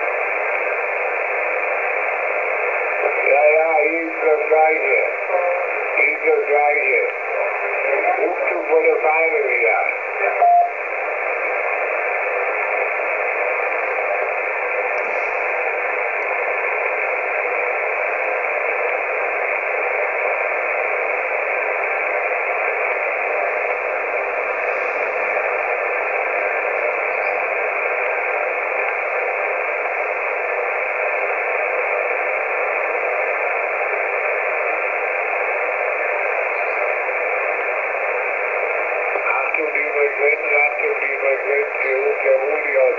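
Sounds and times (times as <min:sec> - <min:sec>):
radio static hissing: 0:00.0 - 0:42.9.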